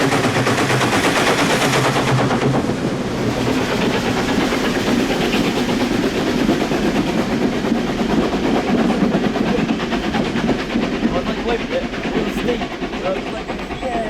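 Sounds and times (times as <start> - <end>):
steam locomotive exhaust beats: 0.0 - 14.0
train running noise: 0.0 - 14.0.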